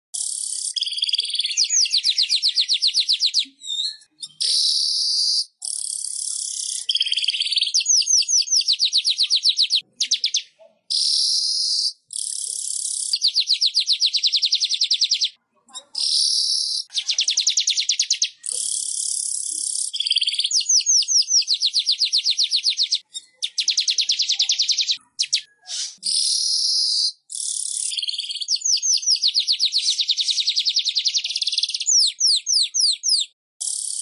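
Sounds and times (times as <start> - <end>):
weaver bird song: 0.2 - 34.0.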